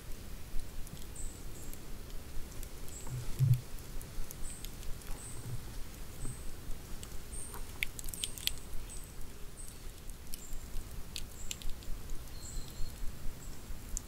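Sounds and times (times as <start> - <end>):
campfire crackling: 0.0 - 14.0
low steady rumble: 0.0 - 14.0.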